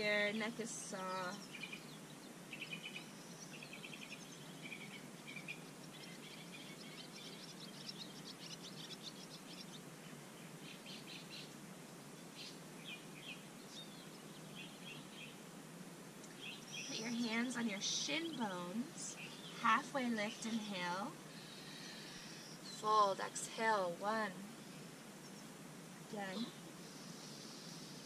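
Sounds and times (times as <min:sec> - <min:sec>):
faint steady hiss: 0:00.0 - 0:28.0
small songbirds chirping: 0:00.0 - 0:28.0.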